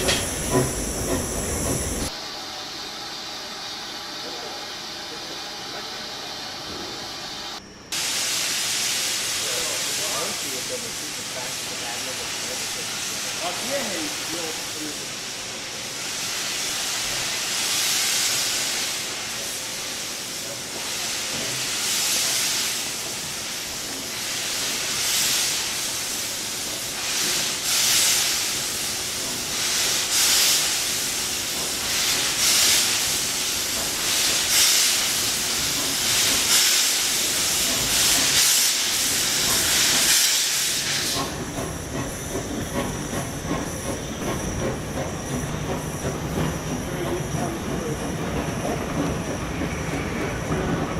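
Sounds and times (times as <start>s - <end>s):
steam locomotive exhaust beats: 0.0s - 2.2s, 8.0s - 50.9s
rolling train noise: 0.0s - 50.9s.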